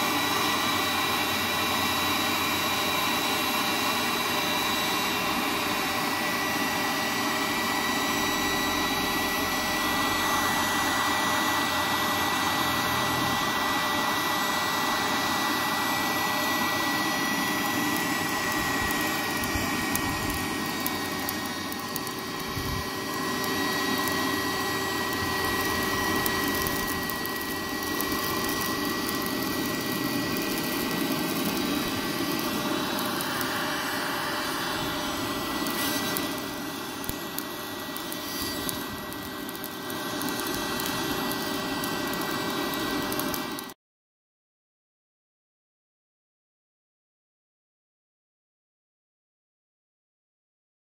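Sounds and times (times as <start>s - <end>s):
electric charcoal lighter fan rushing: 0.0s - 43.8s
thin steady whine: 0.0s - 43.8s.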